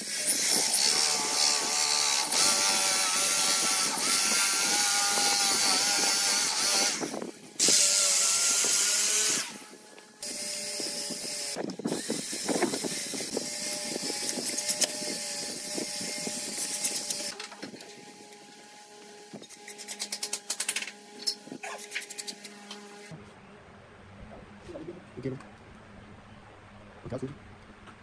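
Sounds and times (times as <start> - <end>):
electric drill boring into wood: 0.0 - 23.1.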